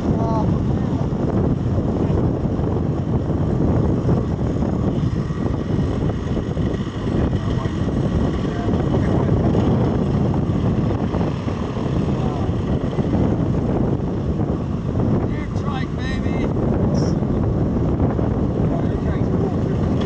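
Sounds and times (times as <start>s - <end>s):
strong wind on microphone: 0.0s - 20.0s.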